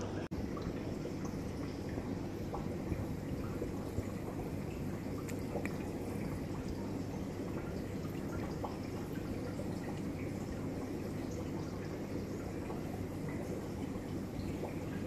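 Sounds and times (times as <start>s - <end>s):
aquarium filter water bubbling: 0.0s - 15.0s
faint drips and ticks: 0.0s - 15.0s.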